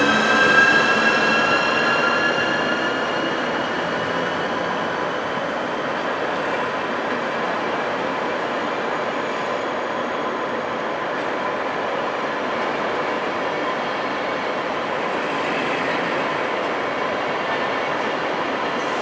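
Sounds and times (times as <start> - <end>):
train rolling through station: 0.0 - 19.0.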